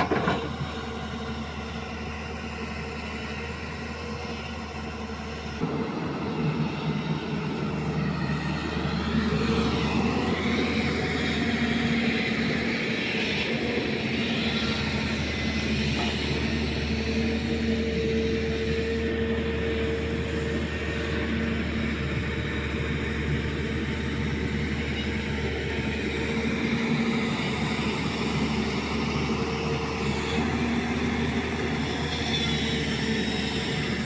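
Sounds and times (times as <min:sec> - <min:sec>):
backhoe diesel engine running: 0:00.0 - 0:34.0.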